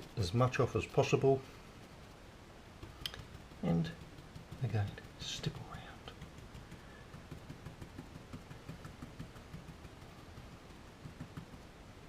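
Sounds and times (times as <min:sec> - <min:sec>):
brush tapping soft taps: 0:00.0 - 0:11.8.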